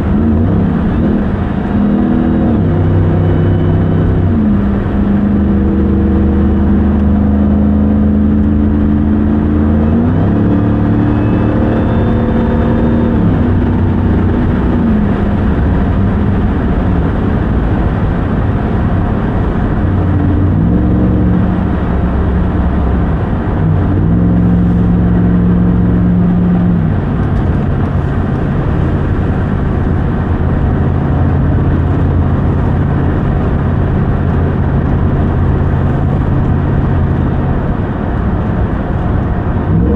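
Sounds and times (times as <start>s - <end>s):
road noise: 0.0s - 39.9s
truck engine driving: 0.0s - 39.9s.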